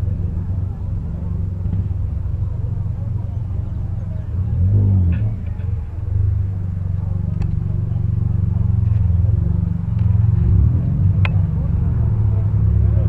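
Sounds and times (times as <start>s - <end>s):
car engine rumbling and revving: 0.0s - 13.0s.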